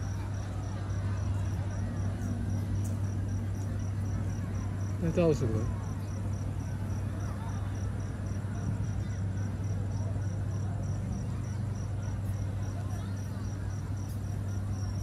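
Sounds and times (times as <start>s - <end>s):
crowd chatter: 0.0s - 15.0s
low steady hum: 0.0s - 15.0s.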